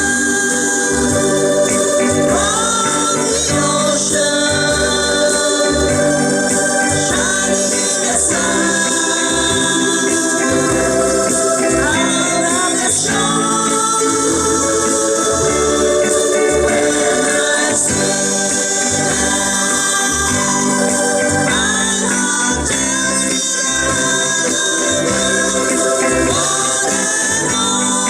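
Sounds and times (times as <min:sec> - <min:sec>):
instrumental accompaniment with bass: 0:00.0 - 0:28.0
people singing in harmony: 0:00.0 - 0:28.0.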